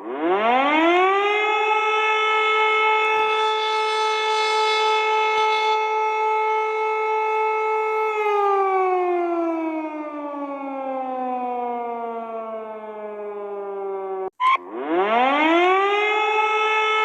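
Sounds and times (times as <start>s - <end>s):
civil defense siren wailing: 0.0s - 17.0s.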